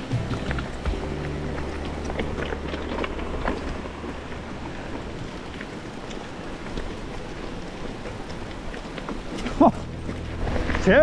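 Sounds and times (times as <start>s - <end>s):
bike tyre and wind rumble: 0.0s - 11.0s
low steady hum: 0.0s - 11.0s.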